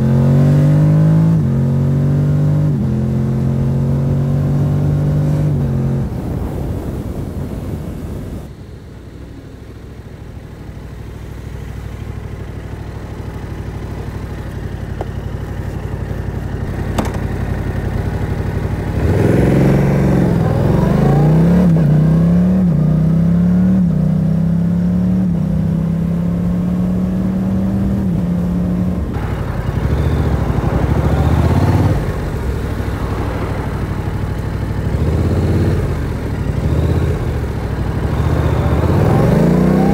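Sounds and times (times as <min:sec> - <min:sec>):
motorcycle engine accelerating: 0:00.0 - 0:07.8, 0:10.3 - 0:39.9.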